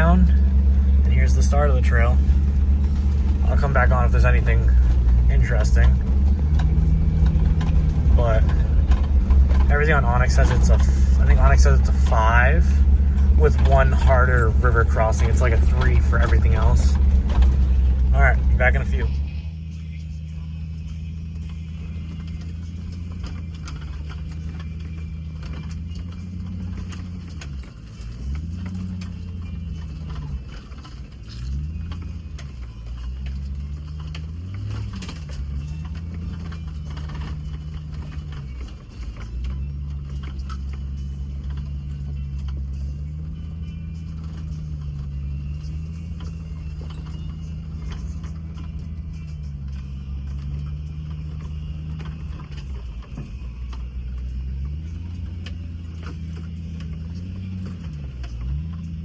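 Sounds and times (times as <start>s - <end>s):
car engine revving off-road: 0.0s - 59.0s
knocks and rattles: 0.0s - 59.0s.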